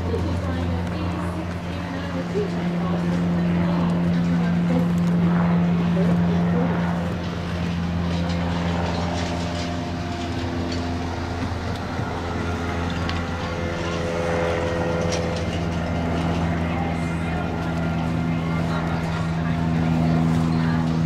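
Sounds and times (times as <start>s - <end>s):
low machine drone: 0.0s - 21.0s.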